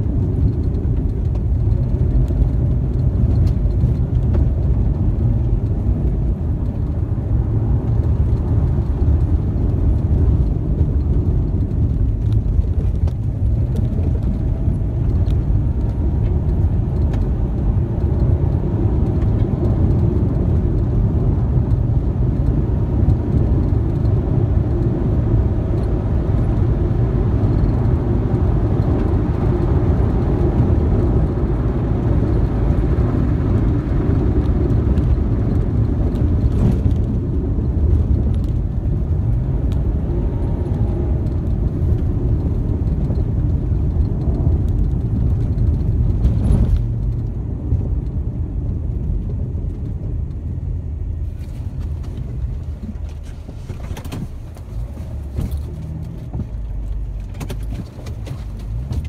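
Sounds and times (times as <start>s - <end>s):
car driving on dirt road: 0.0s - 59.0s.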